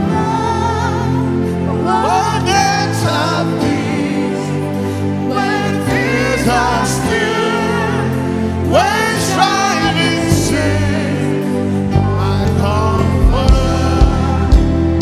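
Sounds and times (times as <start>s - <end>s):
instrumental backing: 0.0s - 15.0s
person singing a hymn: 0.0s - 15.0s.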